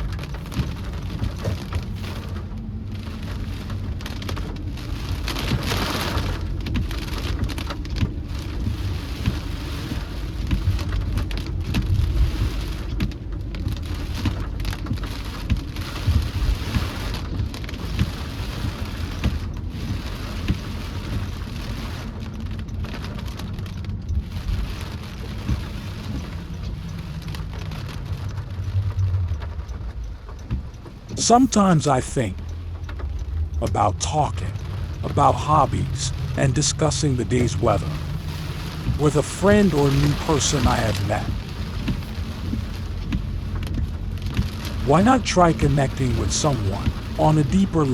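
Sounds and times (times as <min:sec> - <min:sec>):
heavy rain pattering: 0:00.0 - 0:47.9
low rumble: 0:00.0 - 0:47.9.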